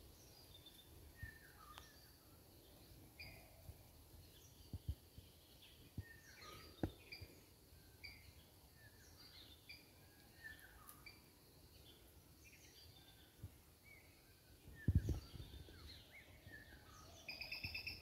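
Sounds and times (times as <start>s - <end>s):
faint background noise: 0.0s - 18.0s.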